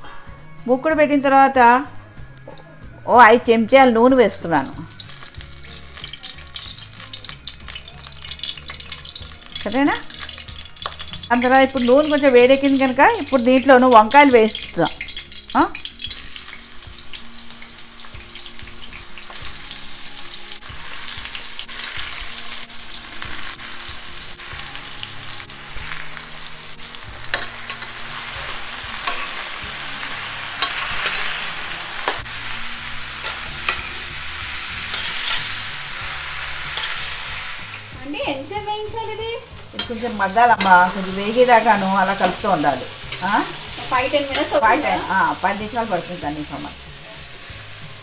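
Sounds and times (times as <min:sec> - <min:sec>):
vegetables sizzling in oil: 0:03.1 - 0:48.0.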